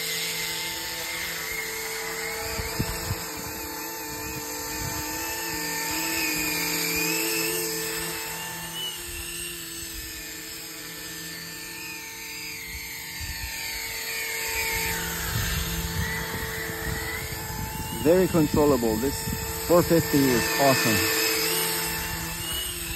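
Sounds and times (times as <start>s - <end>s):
model helicopter whine: 0.0s - 22.9s
rotor hum: 0.7s - 22.9s.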